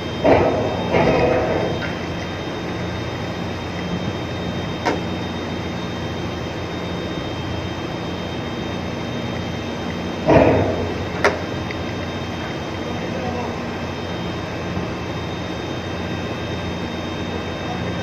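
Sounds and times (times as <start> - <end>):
marine engine hum: 0.0 - 18.0.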